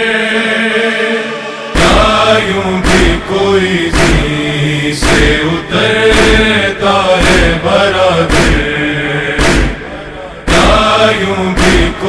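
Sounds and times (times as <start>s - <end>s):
men chanting in chorus: 0.0s - 12.0s
rhythmic chest-beating: 1.8s - 12.0s.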